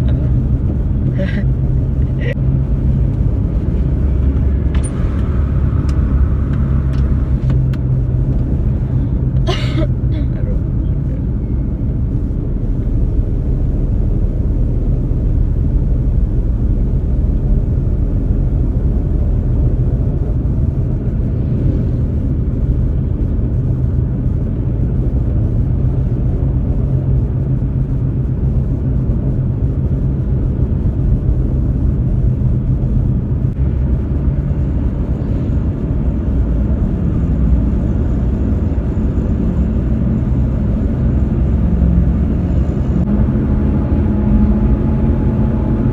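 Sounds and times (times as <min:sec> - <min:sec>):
vehicle rumble from inside: 0:00.0 - 0:45.9.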